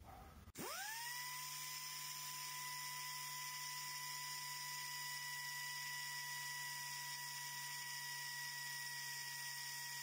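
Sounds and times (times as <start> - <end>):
air grinder high whine: 0.6 - 10.0.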